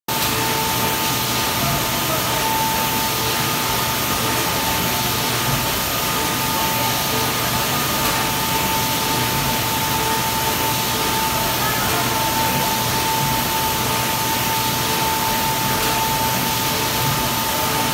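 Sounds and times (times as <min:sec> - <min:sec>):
production line machine hiss: 0:00.1 - 0:17.9.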